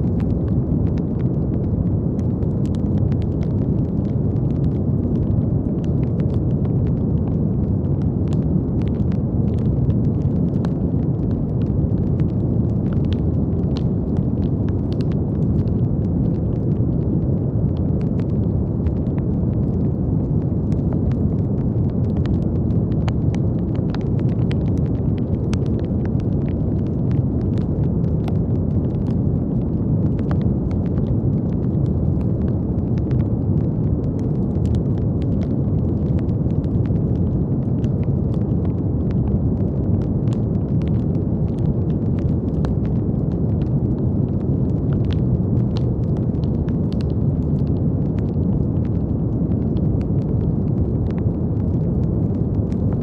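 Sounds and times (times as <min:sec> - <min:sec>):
deep even hiss of brown noise: 0:00.0 - 0:53.0.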